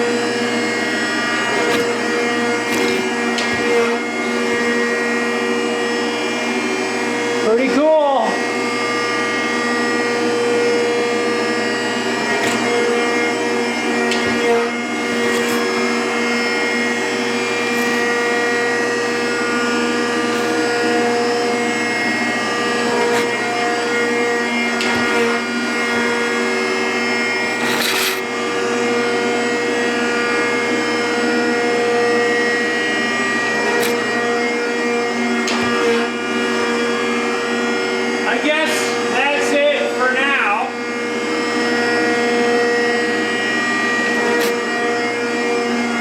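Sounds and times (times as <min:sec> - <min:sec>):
planer machine humming: 0:00.0 - 0:46.0.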